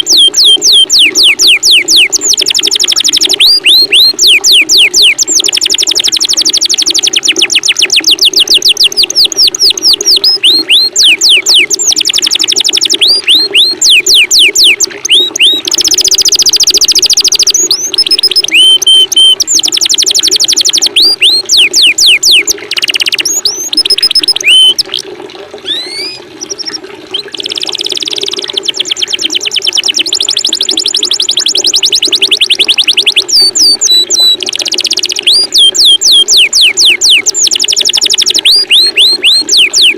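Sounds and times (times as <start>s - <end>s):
songbirds trilling: 0.0s - 5.6s, 7.0s - 25.0s, 25.6s - 39.9s
running water: 0.0s - 39.9s.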